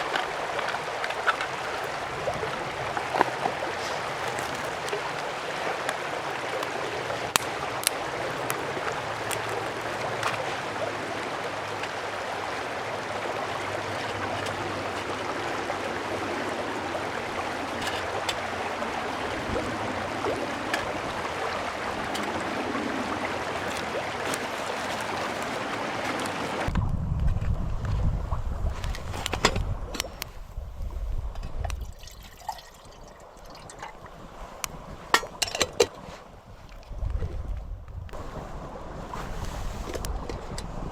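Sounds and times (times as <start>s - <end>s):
wind buffeting microphone: 0.0s - 5.2s, 6.3s - 40.9s
stream flowing: 0.0s - 26.8s, 28.4s - 36.9s.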